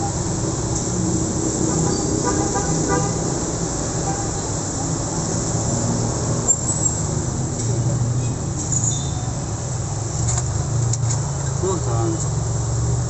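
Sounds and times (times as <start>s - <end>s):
traffic passing: 0.0s - 13.0s.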